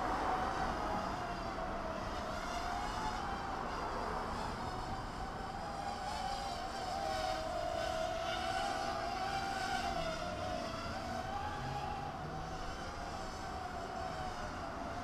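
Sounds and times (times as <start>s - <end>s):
toy drone propeller whine: 0.0s - 15.0s.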